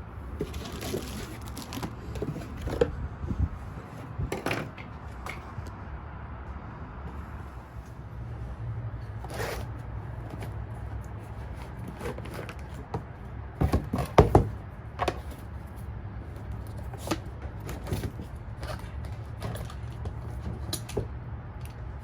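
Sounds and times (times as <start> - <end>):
items rustling and clicking: 0.2 - 5.8, 9.1 - 22.0.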